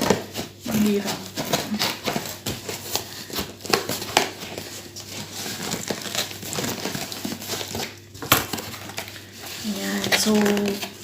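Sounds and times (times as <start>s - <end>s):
packing filler crinkling: 0.0s - 11.0s.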